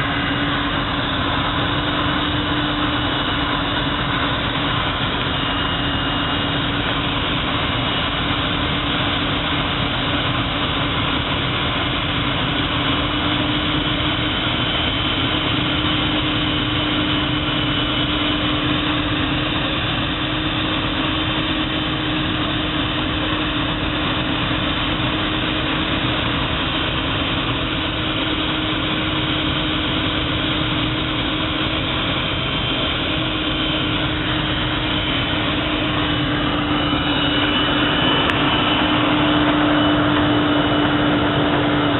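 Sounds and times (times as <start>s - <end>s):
blasting machine running: 0.0s - 41.9s
constant machine hum: 0.0s - 41.9s.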